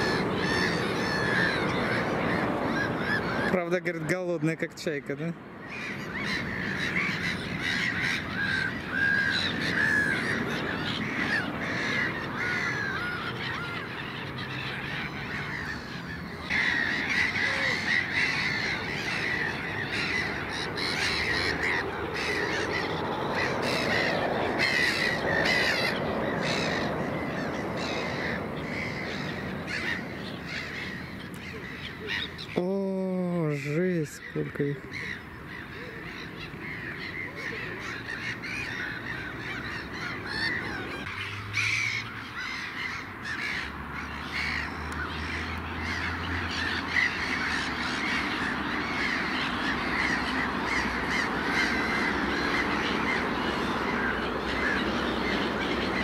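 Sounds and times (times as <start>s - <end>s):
gulls calling harshly: 0.0s - 56.0s.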